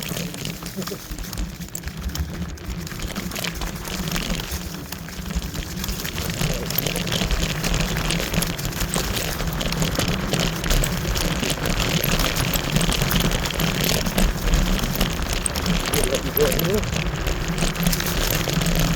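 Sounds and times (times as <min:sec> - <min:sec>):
tyres crackling over loose stones: 0:00.0 - 0:18.9.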